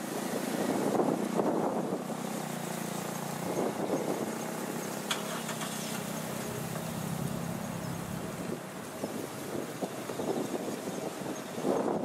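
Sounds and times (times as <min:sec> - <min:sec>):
low engine hum: 0:00.0 - 0:12.0
wind on microphone: 0:00.0 - 0:12.0.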